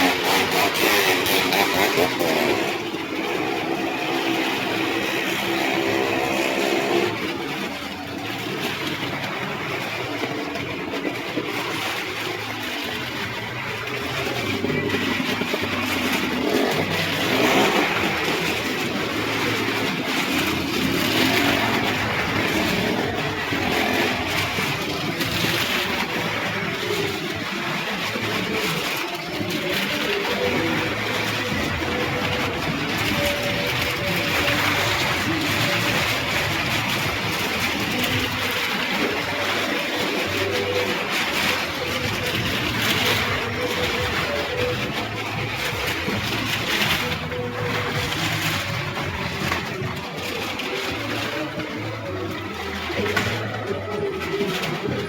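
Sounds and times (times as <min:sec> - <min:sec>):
stunt vehicle engines revving: 0:00.0 - 0:55.0.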